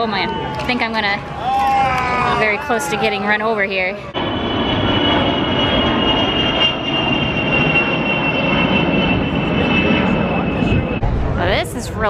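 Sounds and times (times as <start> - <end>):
jet plane flying past: 0.0 - 12.0.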